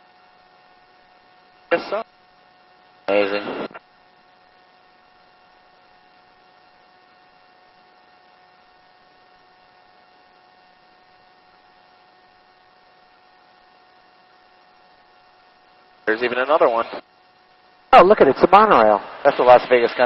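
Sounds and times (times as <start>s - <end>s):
intercom electrical hum and hiss: 0.0s - 20.0s.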